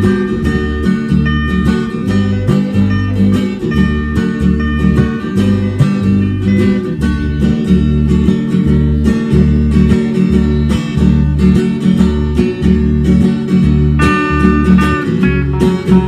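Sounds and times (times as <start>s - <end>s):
bass line: 0.0s - 16.0s
strummed acoustic guitar: 0.0s - 16.0s.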